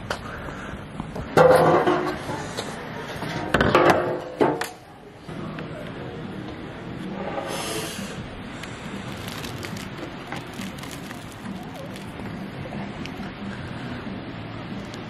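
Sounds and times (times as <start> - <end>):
outdoor background hum: 0.0 - 15.0.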